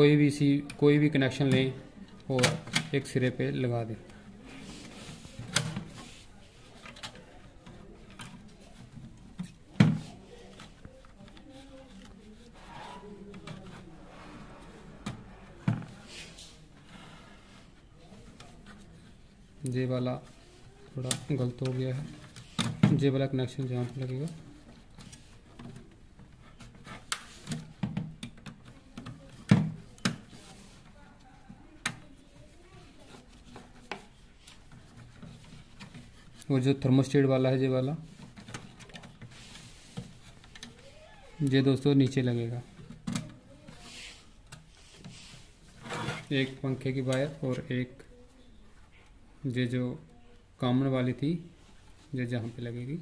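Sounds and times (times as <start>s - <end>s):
faint rustling: 0.7s - 27.9s, 28.5s - 53.0s.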